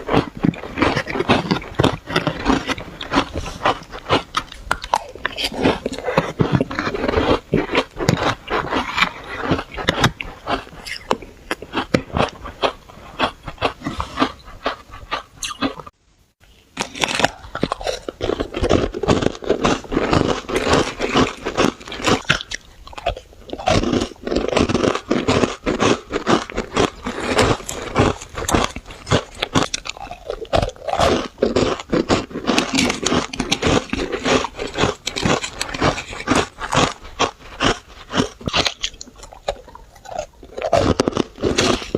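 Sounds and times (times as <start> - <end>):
crunching and chewing shaved ice: 0.0 - 16.0, 16.8 - 41.9.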